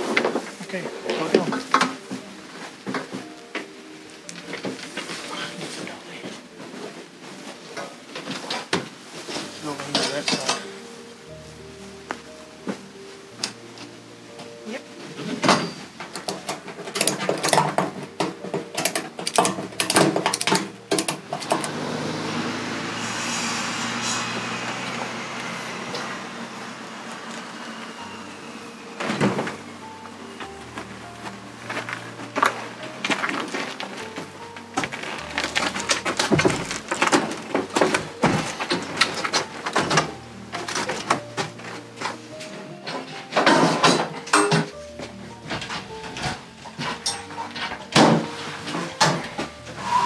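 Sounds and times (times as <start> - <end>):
hand truck rolling over grass: 0.0 - 50.0.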